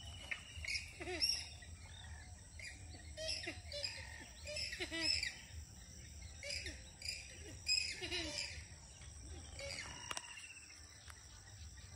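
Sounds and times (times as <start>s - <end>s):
birds chirping and whistling: 0.0s - 11.9s.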